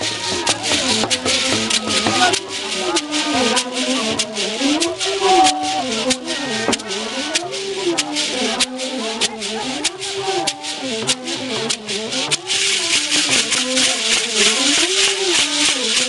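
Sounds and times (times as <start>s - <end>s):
rattling shaker rhythm: 0.0s - 16.0s.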